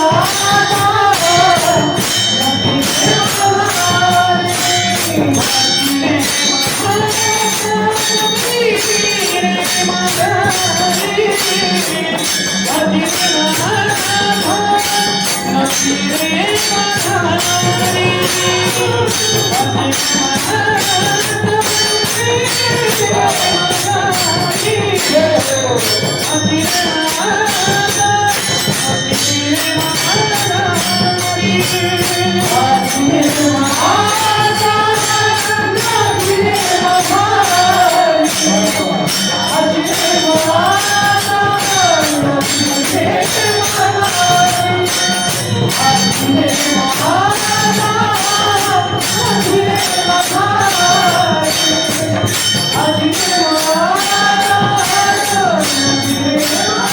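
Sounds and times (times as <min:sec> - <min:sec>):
jingling hand percussion: 0:00.0 - 0:56.9
man singing devotional song: 0:00.0 - 0:56.9.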